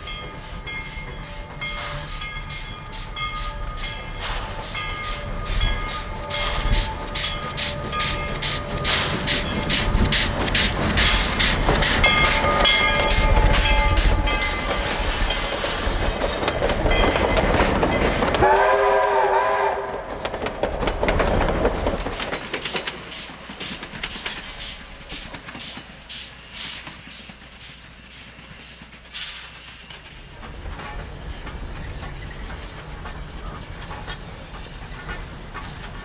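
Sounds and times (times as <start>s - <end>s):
steam locomotive exhaust beats: 0.0s - 36.0s
train coaches rolling by: 0.0s - 36.0s
wheels clacking over rail joints: 3.8s - 18.6s, 20.0s - 36.0s.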